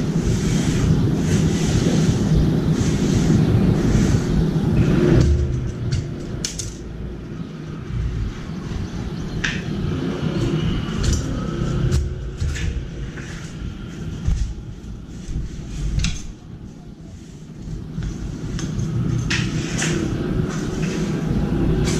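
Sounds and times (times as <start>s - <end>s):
low outdoor hum: 0.0s - 21.9s
wind rumbling on microphone: 0.0s - 21.9s.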